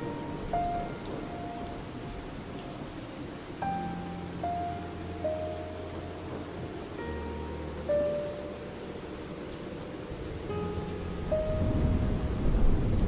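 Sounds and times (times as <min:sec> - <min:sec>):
soft slow piano music: 0:00.0 - 0:13.0
steady rainfall: 0:00.0 - 0:13.0.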